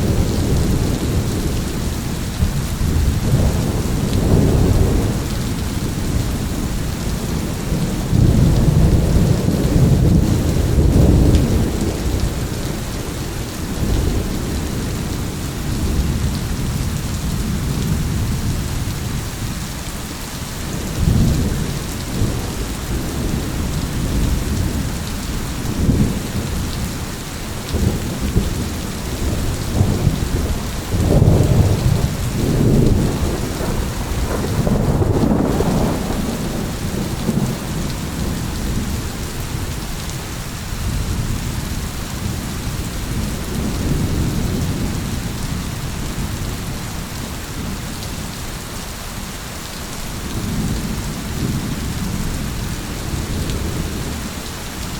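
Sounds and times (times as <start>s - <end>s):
thunder rumbling: 0.0s - 19.2s, 20.6s - 48.3s
steady rain: 0.0s - 54.9s.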